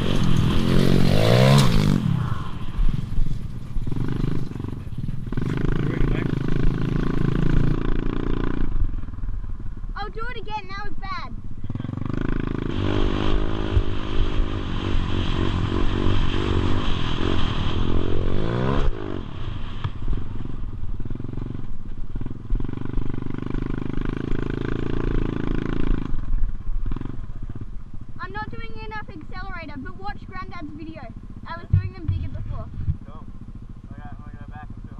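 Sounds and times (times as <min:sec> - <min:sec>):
motorbike engine revving: 0:00.0 - 0:34.9.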